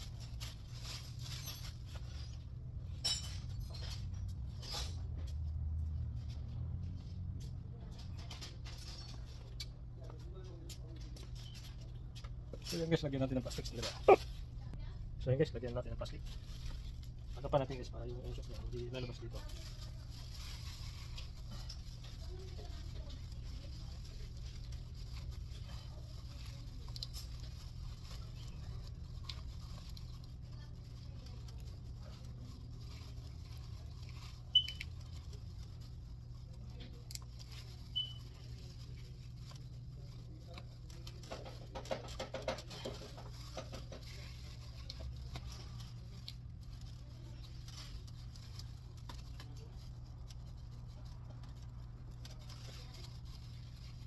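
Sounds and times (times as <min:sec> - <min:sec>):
plastic sheet rustling: 0:00.0 - 0:03.1, 0:07.7 - 0:54.0.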